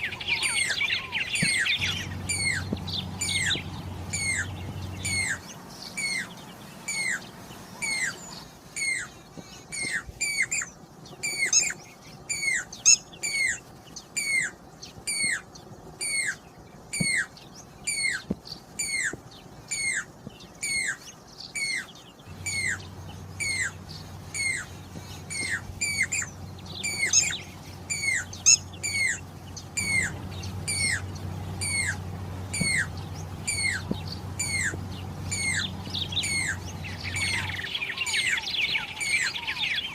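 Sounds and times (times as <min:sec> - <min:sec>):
cuckoo whistled calls: 0:00.0 - 0:13.6, 0:14.2 - 0:39.9.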